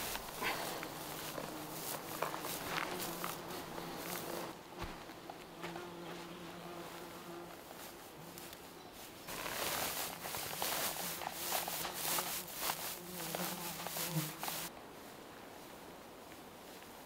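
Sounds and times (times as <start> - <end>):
dry moss rustling and crackling: 0.0 - 6.2, 6.8 - 14.7
insect buzzing: 0.0 - 14.7.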